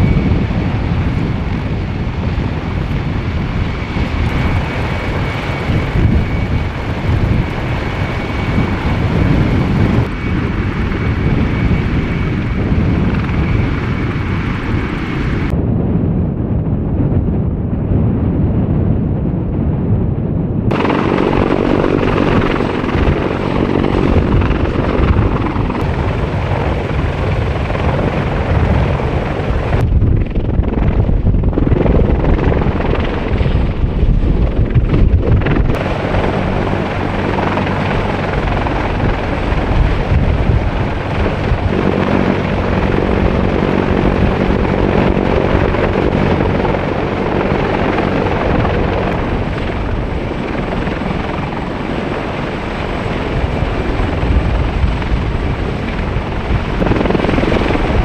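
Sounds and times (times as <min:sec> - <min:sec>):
helicopter rotors droning: 0:00.0 - 0:17.5, 0:18.2 - 0:58.0.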